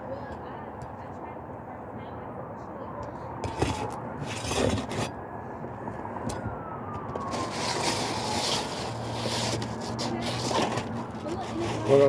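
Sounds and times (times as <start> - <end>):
traffic noise: 0.0 - 12.0
distant siren wailing: 0.6 - 12.0.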